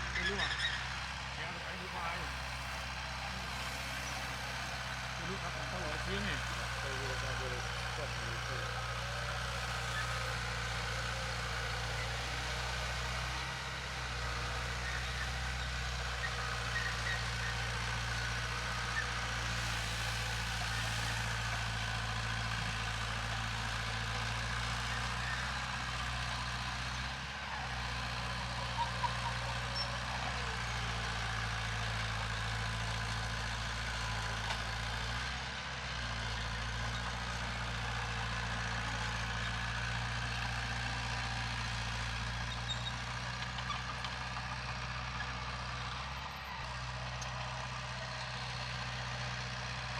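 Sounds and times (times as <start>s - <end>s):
diesel machinery engine running: 0.0s - 49.9s.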